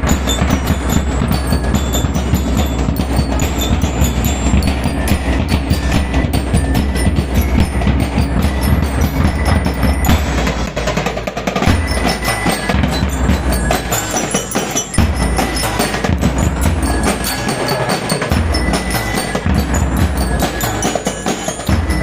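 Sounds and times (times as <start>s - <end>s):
bell lyre melody: 0.0s - 22.0s
snare and bass drum beats: 0.0s - 22.0s.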